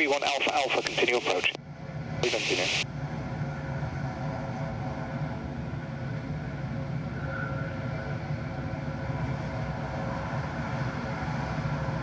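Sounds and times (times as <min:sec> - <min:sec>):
jet engine whine: 0:00.0 - 0:12.0
jet engines droning: 0:00.0 - 0:12.0.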